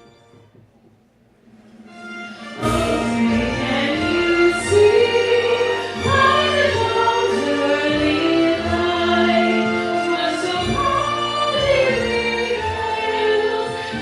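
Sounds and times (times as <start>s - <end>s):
soft musical accompaniment: 0.0s - 14.0s
woman singing anthem: 2.6s - 14.0s.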